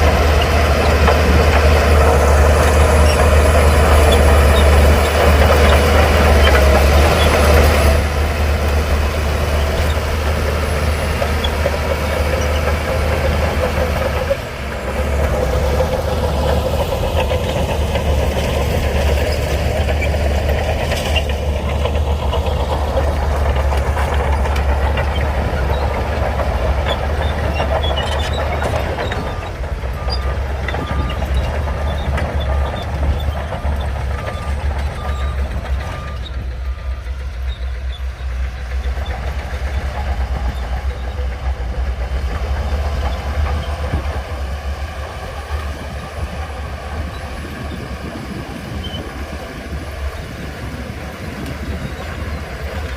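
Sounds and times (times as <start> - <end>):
heavy diesel engine rumble: 0.0 - 52.9.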